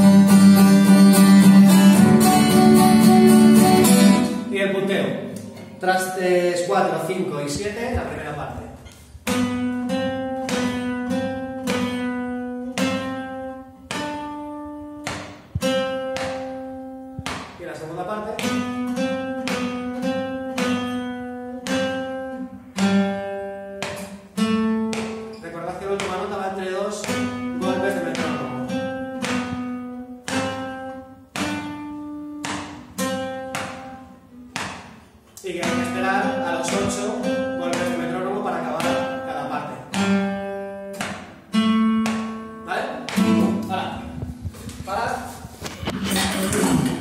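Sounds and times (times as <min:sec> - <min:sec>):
acoustic guitar picked melody: 0:00.0 - 0:47.0.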